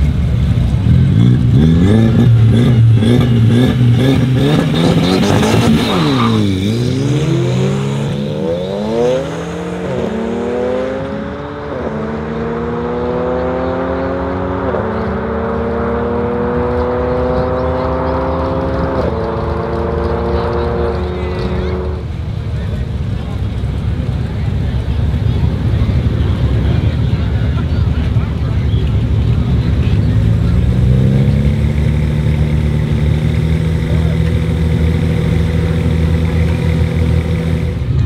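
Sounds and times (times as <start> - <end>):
car engines revving and accelerating: 0.0 - 38.0.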